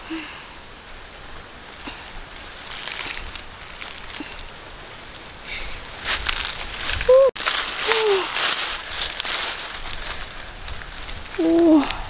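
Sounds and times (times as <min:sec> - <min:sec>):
rustling of dry leaves: 0:00.0 - 0:12.0
steady outdoor hiss: 0:00.0 - 0:12.0.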